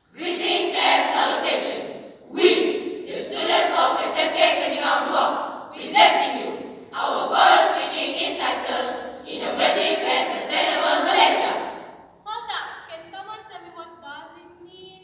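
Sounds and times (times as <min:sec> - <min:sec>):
voices reciting in unison: 0:00.0 - 0:12.0.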